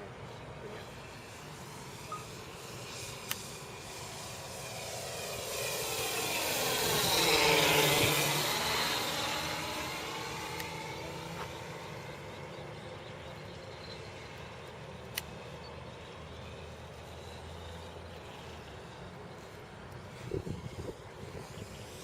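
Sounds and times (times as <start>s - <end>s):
model airplane propeller noise: 0.0s - 22.0s
simulated piston engine drone: 0.0s - 22.0s.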